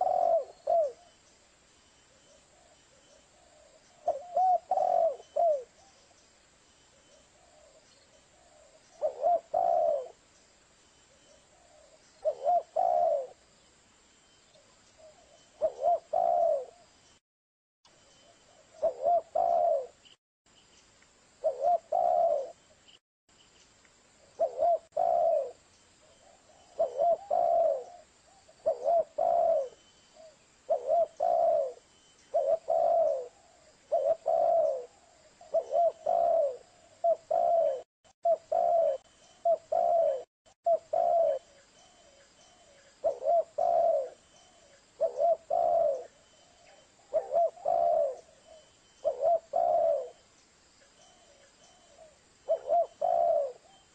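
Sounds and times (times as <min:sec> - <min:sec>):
dove cooing: 0:00.0 - 0:01.1, 0:02.5 - 0:06.0, 0:07.4 - 0:10.2, 0:11.4 - 0:13.4, 0:14.5 - 0:16.9, 0:18.5 - 0:20.0, 0:21.4 - 0:22.6, 0:24.4 - 0:50.2, 0:51.0 - 0:53.9.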